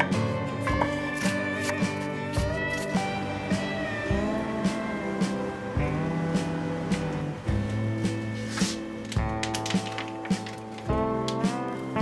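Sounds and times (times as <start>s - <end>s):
guitar music with light beat: 0.0s - 12.0s.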